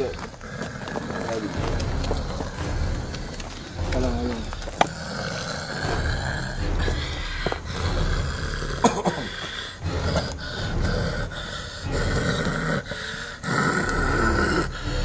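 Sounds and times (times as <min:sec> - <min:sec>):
low rumbling noise: 0:00.0 - 0:15.0
person breathing heavily: 0:00.0 - 0:15.0
snorting and grunting: 0:00.0 - 0:15.0.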